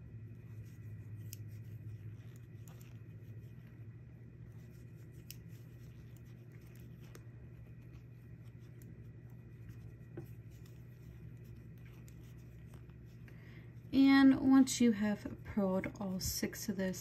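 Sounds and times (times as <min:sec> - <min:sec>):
steady low hum: 0:00.0 - 0:17.0
yarn rubbing: 0:00.0 - 0:17.0.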